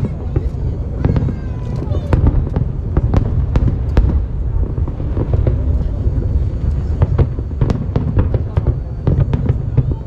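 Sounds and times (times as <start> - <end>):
low rumble of firework bursts: 0.0 - 10.0
sharp firework cracks: 0.0 - 10.0.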